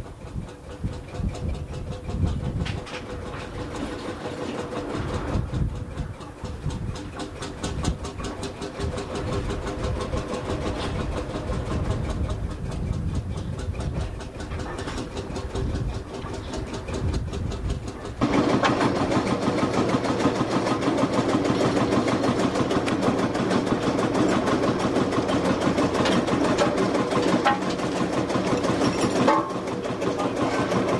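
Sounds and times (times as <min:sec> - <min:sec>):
engine running: 0:00.0 - 0:30.9.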